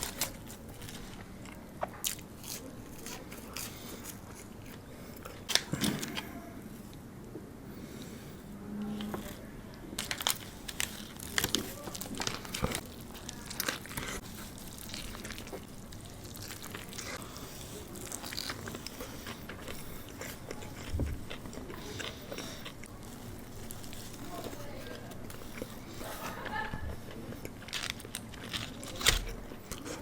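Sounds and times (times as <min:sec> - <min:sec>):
crisp crunching: 0:00.0 - 0:06.3, 0:10.0 - 0:26.6, 0:27.3 - 0:30.0
person chewing food: 0:00.0 - 0:07.0, 0:10.0 - 0:30.0.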